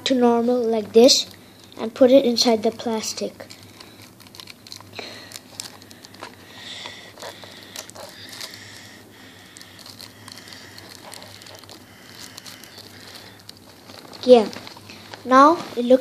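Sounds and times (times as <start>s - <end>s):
plastic wrapper crinkling: 3.0s - 16.0s.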